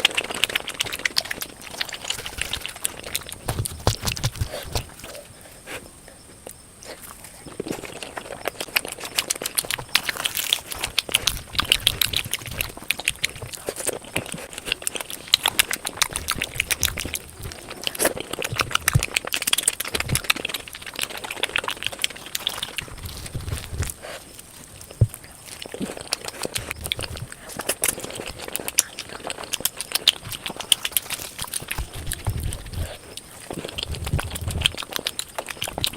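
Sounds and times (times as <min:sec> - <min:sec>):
chewing and lip-smacking: 0:00.0 - 0:35.9.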